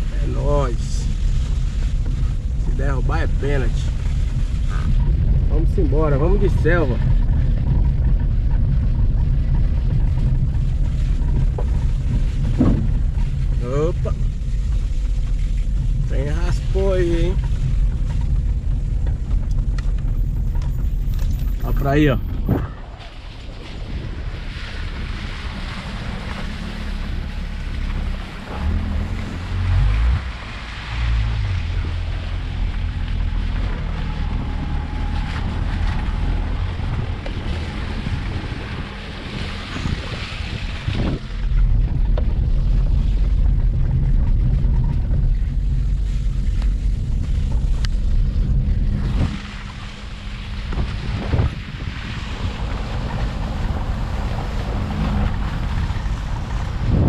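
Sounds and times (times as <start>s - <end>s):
car engine running: 0.0s - 57.0s
wind rumble on microphone: 0.0s - 57.0s.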